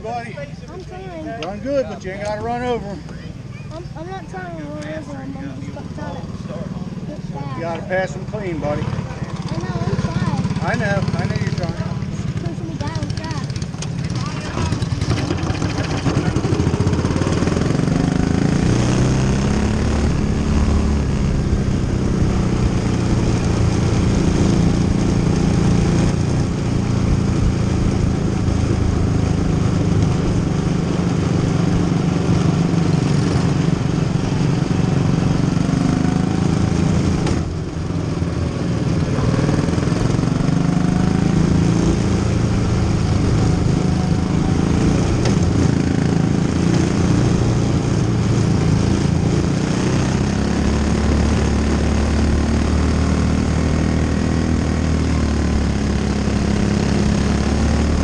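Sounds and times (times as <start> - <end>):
race car engine under throttle: 0.0 - 58.0.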